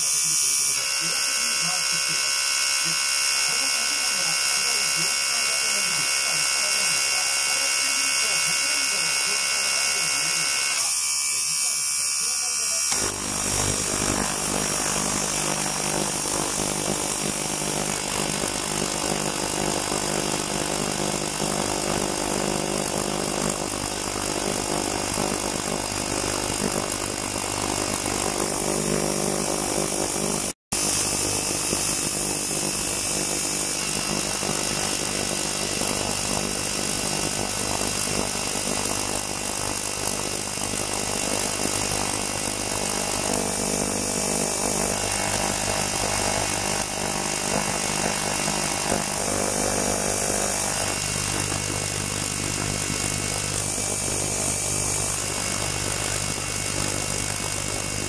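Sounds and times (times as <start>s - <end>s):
ultrasonic cleaner buzzing hiss: 0.0s - 58.0s.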